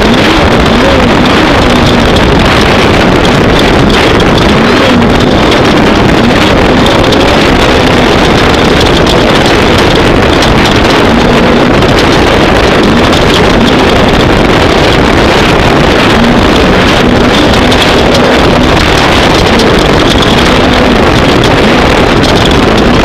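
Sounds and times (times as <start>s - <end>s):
race vehicle engine running hard: 0.0s - 23.0s
wind noise on microphone: 0.0s - 23.0s.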